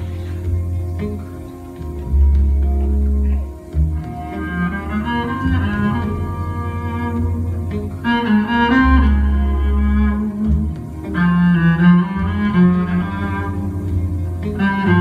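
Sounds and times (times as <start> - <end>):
bowed bass guitar notes: 0.0 - 15.0.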